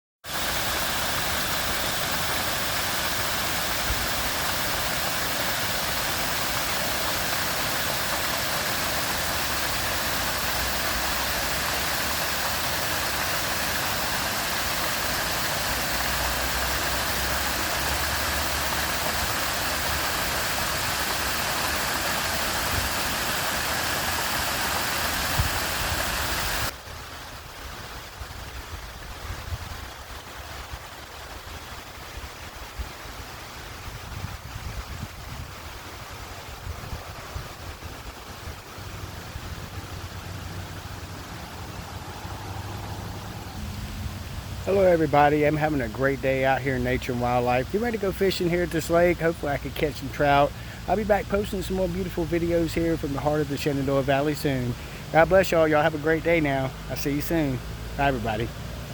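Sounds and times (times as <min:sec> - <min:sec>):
rushing water: 0:00.2 - 0:58.9.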